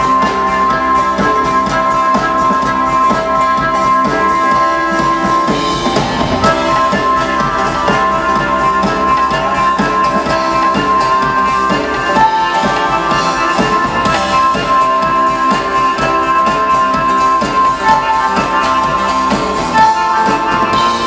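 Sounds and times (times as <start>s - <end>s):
drum beat: 0.0s - 21.0s.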